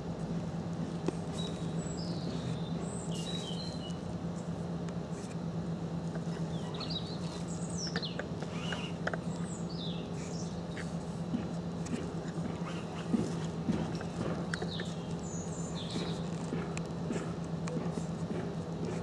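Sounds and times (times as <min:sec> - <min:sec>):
steady low hum: 0:00.0 - 0:19.0
small birds chirping: 0:01.0 - 0:05.4, 0:06.1 - 0:19.0.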